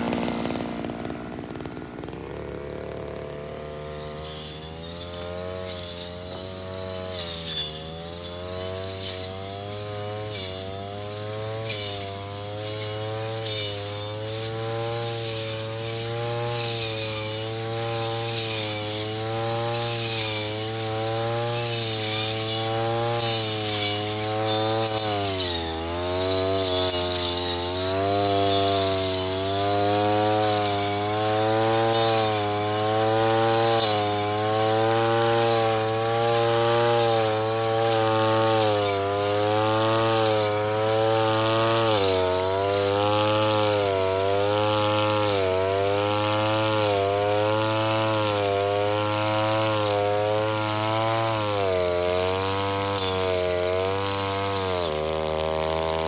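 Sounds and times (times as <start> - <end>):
brush cutter engine revving: 0.0 - 56.0.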